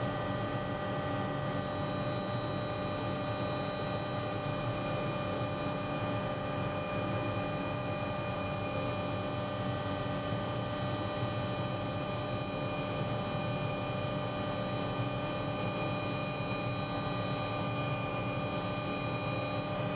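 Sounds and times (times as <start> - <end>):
helicopter drone with whining: 0.0 - 19.9.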